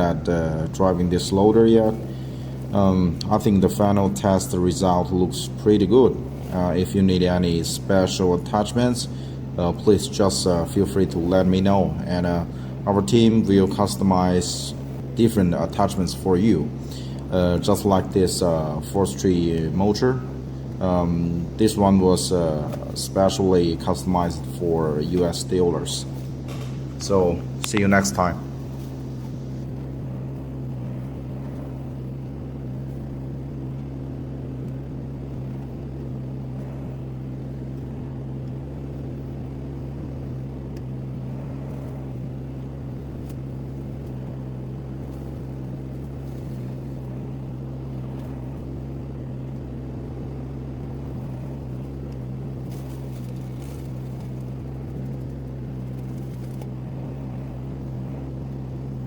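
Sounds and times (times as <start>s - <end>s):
skid steer engine running: 0.0s - 59.0s.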